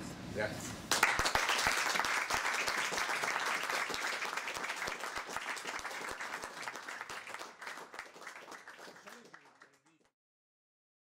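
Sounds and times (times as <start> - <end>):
audience applauding: 0.9 - 10.1.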